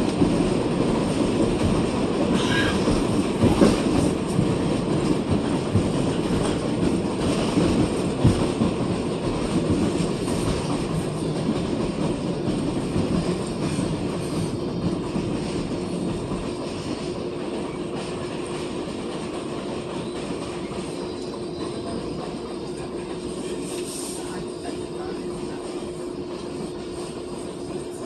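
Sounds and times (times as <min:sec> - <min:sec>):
subway train wheels rumbling: 0:00.0 - 0:28.0.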